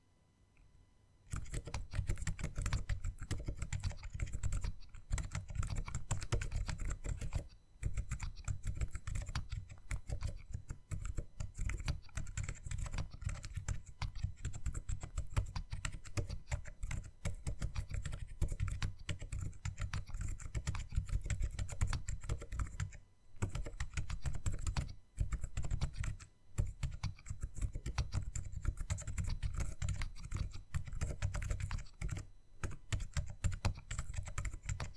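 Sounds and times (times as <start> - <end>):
fast typing on mechanical keyboard: 1.3 - 34.9.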